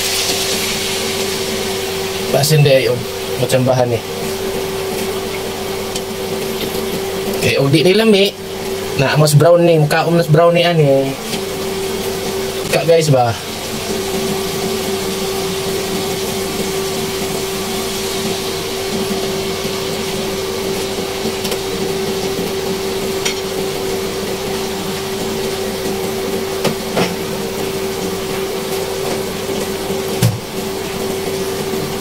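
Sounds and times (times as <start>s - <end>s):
meat sizzling in a wok: 0.0s - 32.0s
steady hum: 0.0s - 32.0s.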